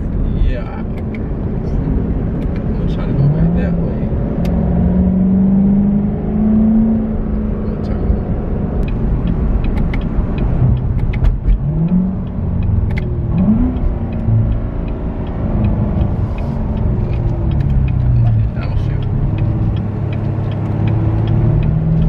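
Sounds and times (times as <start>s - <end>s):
car engine accelerating from cabin: 1.5s - 22.0s.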